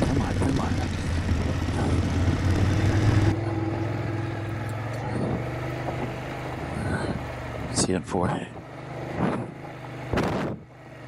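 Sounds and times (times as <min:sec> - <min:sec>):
motorcycle engine pulling hard: 0:00.0 - 0:07.9, 0:08.8 - 0:10.7.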